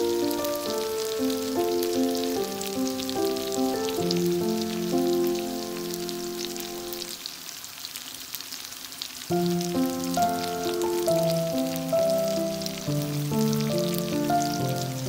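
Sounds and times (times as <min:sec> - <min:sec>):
background music melody: 0:00.0 - 0:07.2, 0:09.3 - 0:15.0
curry sizzling in a frying pan: 0:00.0 - 0:15.0.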